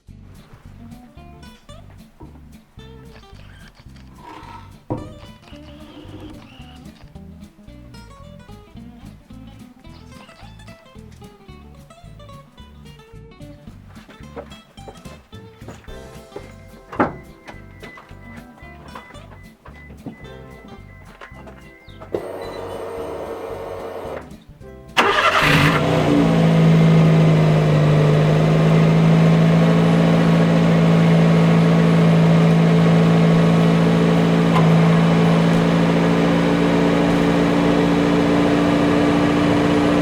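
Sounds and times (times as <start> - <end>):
car engine cranking and idling: 0.0 - 11.3, 13.8 - 40.0.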